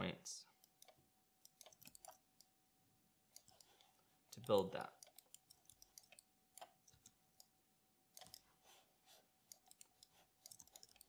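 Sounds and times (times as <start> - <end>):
computer mouse and keyboard clicks: 0.6 - 2.5, 3.3 - 7.5, 8.1 - 11.0.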